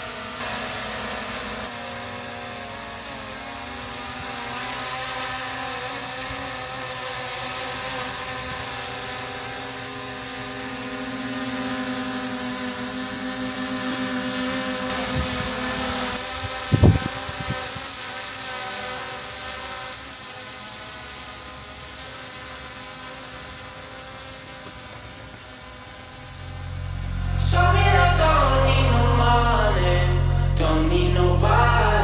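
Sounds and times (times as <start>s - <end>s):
drone propellers whining: 0.0s - 30.7s.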